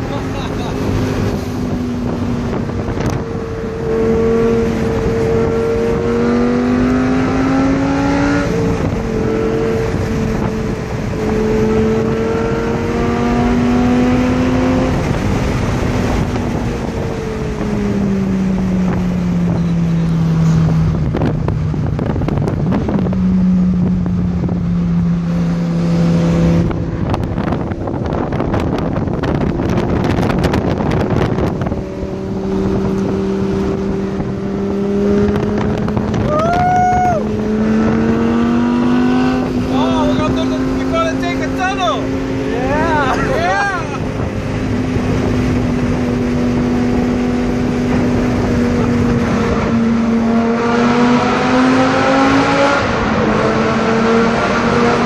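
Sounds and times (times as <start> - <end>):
sports car engine revving: 0.0 - 55.0
wind buffeting microphone: 0.0 - 55.0.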